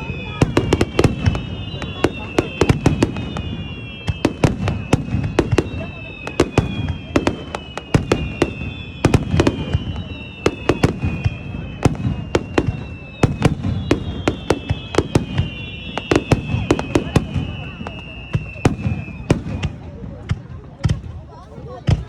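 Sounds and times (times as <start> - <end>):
fireworks whistling: 0.0 - 21.0
fireworks bangs: 0.0 - 22.0.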